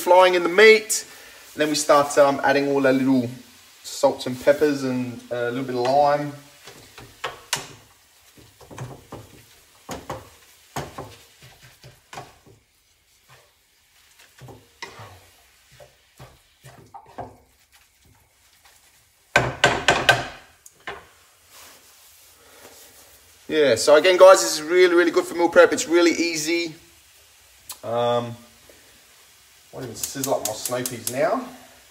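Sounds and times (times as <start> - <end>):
wooden spatula scraping a pan: 0.1 - 27.3.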